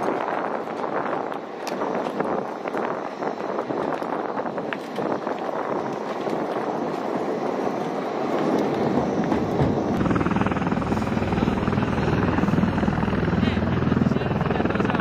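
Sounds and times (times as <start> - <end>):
tiltrotor aircraft roaring: 0.0 - 15.0.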